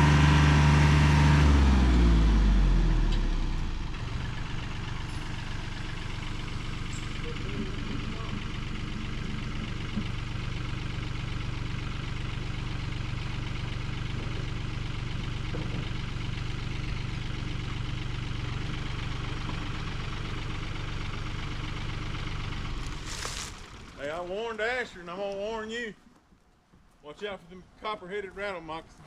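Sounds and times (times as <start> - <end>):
engine idling: 0.0 - 26.4.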